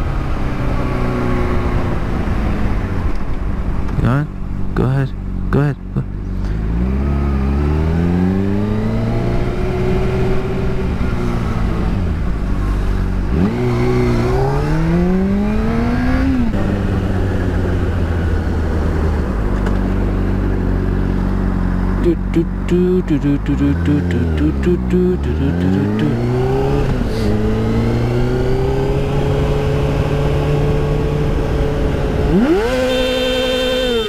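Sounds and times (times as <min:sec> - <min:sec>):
rushing wind: 0:00.0 - 0:05.4, 0:06.1 - 0:22.0, 0:25.6 - 0:34.0
motorcycle engine revving: 0:06.0 - 0:34.0.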